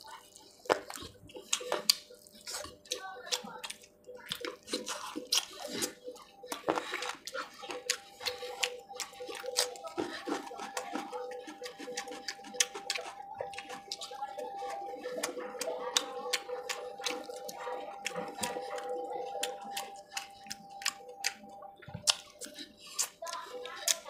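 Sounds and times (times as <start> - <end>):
chewing and lip-smacking: 0.0 - 24.0.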